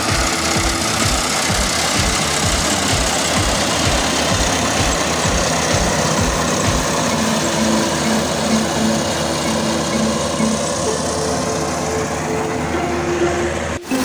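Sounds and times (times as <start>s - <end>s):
engine running: 0.0s - 14.0s
low hum: 0.0s - 14.0s.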